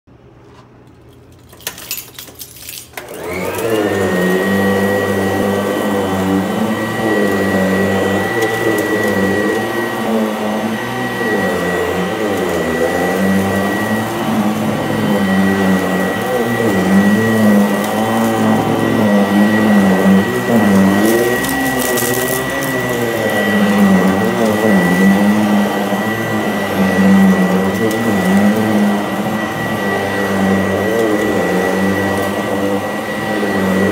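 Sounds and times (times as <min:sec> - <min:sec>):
vacuum cleaner motor whining: 0:02.9 - 0:33.9.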